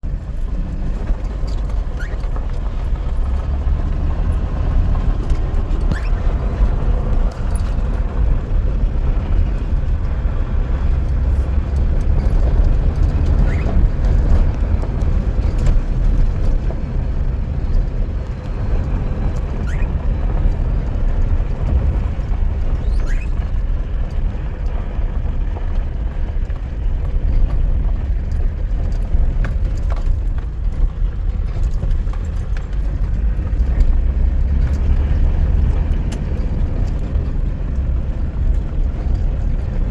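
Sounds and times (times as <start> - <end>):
car interior rumble: 0.0 - 39.9.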